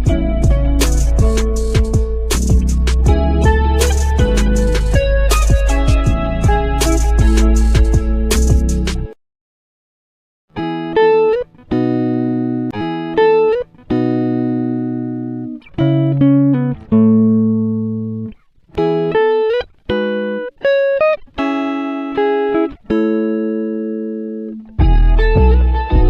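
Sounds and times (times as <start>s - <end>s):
plucked guitar melody: 0.0s - 9.2s, 10.5s - 26.0s.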